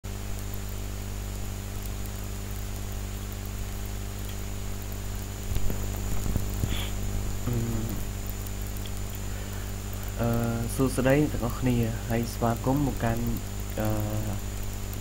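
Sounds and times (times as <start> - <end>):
electrical mains hum and hiss: 0.0 - 15.0
faint high whine: 0.1 - 15.0.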